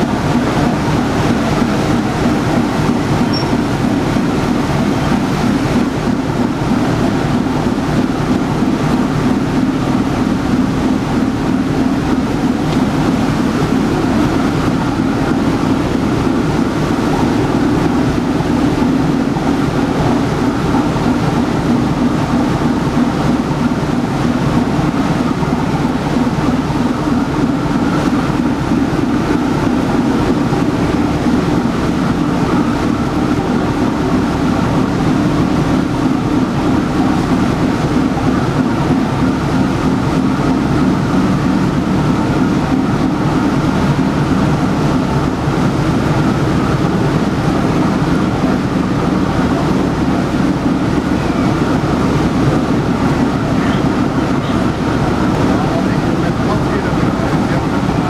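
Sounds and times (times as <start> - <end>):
boat diesel engine droning: 0.0 - 58.0
propeller churning water: 0.0 - 58.0.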